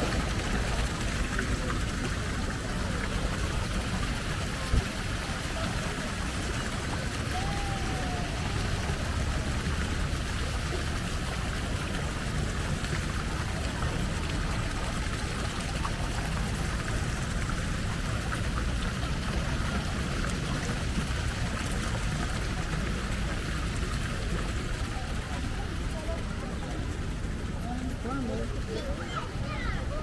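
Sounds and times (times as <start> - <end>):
low city rumble: 0.0 - 30.0.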